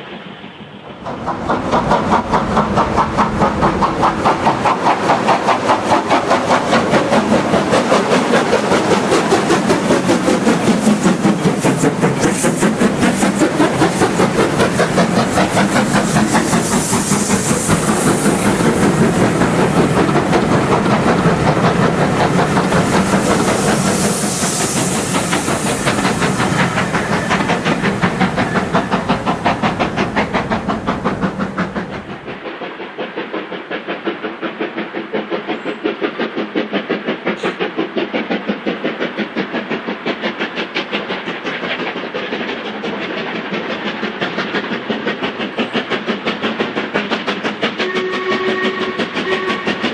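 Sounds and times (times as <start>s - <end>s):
steam locomotive exhaust beating: 0.0s - 49.9s.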